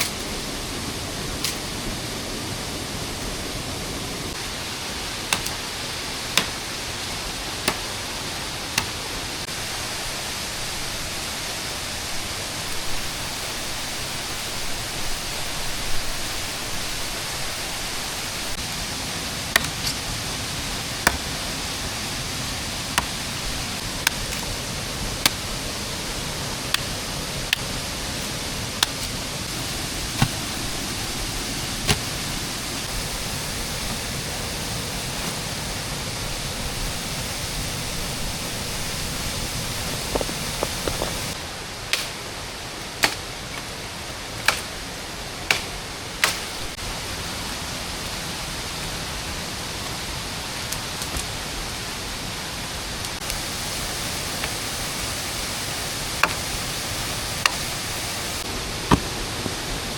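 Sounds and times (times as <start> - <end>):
rain hissing in forest: 0.0 - 59.9.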